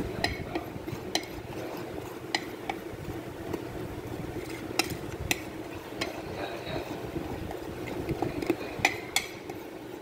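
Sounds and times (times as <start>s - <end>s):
spoon scraping spices on plate: 0.0s - 2.9s, 4.3s - 10.0s.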